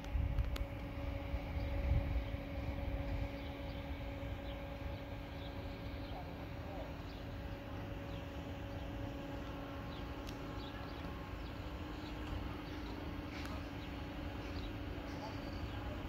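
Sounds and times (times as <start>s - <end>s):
low hum and rumble: 0.0s - 16.0s
small birds chirping: 1.5s - 16.0s.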